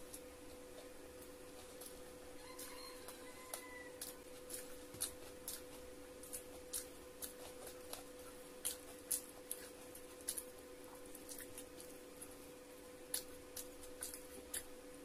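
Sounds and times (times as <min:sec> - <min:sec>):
faint steady hum: 0:00.0 - 0:15.0
chewing and plate clicks: 0:00.1 - 0:12.0, 0:13.1 - 0:14.8.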